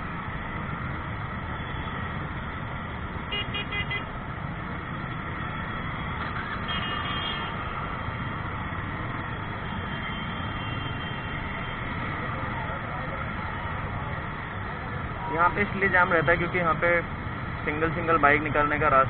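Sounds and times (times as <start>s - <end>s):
motorbike engines rumbling: 0.0s - 19.0s.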